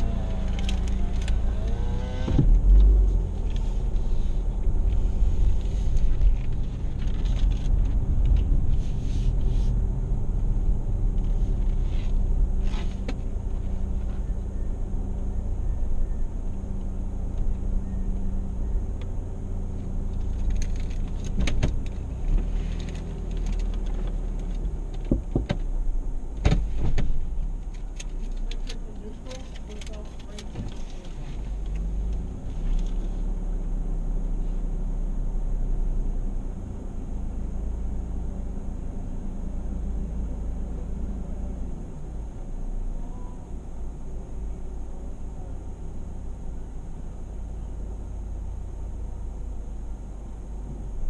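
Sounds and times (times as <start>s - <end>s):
car engine and tyres rumbling: 0.0s - 51.0s.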